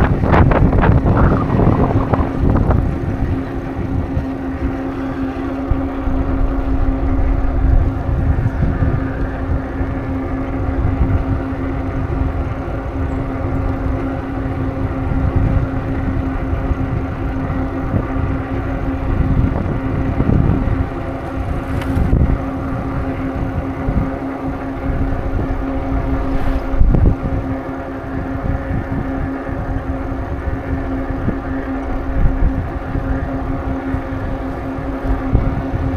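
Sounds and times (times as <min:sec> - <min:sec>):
steady hum: 0:00.0 - 0:35.9
wind buffeting microphone: 0:00.0 - 0:35.9.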